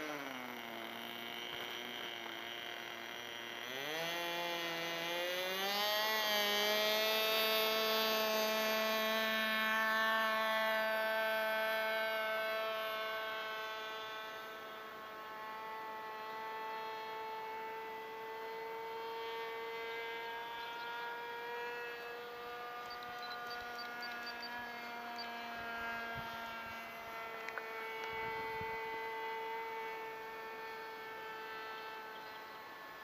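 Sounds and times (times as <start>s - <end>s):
model plane engine buzzing: 0.0s - 33.0s.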